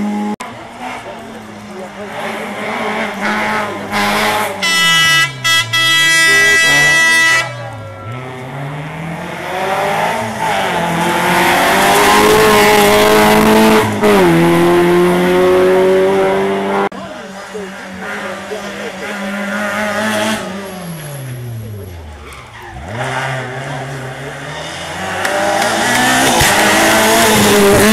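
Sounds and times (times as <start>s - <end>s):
car accelerating: 0.0s - 27.9s
rally car engines revving: 0.0s - 27.9s.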